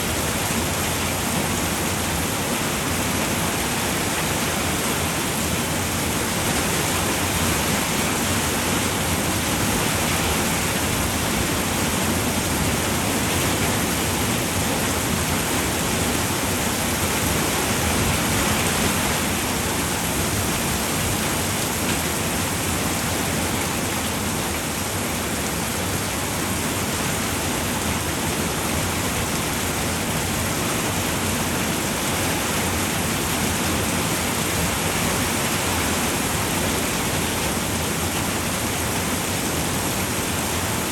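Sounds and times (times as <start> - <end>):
rain falling on a roof: 0.0 - 40.9.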